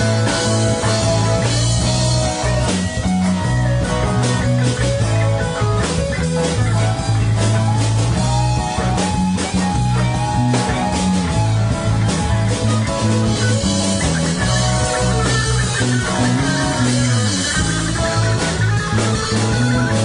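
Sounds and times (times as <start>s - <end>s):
drum kit: 0.0s - 20.0s
electric and acoustic guitars: 0.0s - 20.0s
electric bass line: 0.0s - 20.0s.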